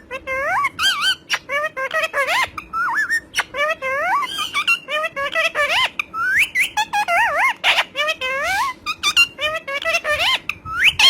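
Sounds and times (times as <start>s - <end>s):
parrot chattering and whistling: 0.0s - 11.0s.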